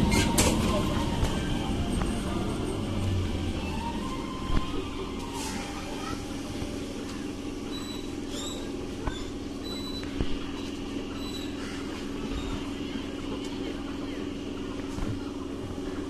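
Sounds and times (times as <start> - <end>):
train electric hum: 0.0 - 16.0.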